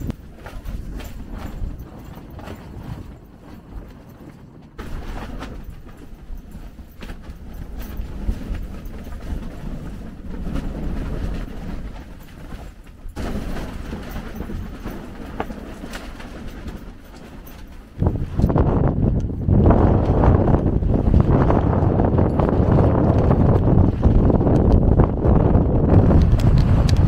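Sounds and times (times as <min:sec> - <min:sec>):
tent fabric flapping and knocking: 0:00.0 - 0:27.0
wind rumble on microphone: 0:00.0 - 0:27.0.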